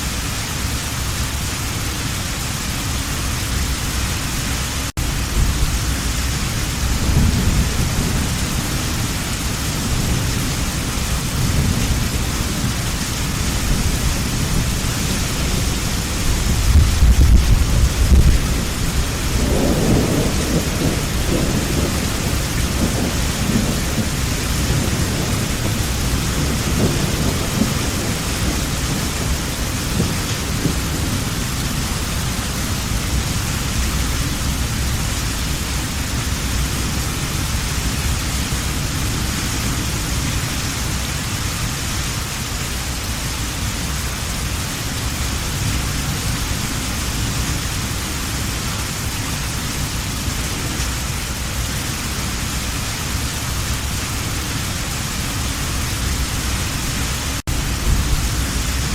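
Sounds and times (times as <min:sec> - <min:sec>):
heavy rain: 0:00.0 - 0:58.9
thunder rumble: 0:05.0 - 0:41.1, 0:45.3 - 0:58.9.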